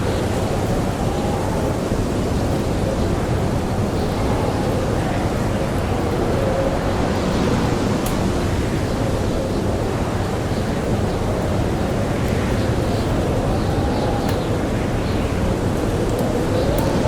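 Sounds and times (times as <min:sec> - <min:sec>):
blizzard wind howling: 0:00.0 - 0:17.0
campfire crackling: 0:00.0 - 0:17.0.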